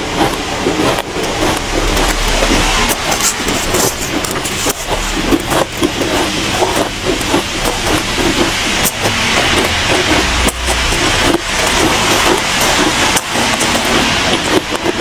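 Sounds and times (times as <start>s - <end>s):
shaved ice being chewed: 0.0s - 15.0s
plastic spoon scraping ice: 0.2s - 15.0s.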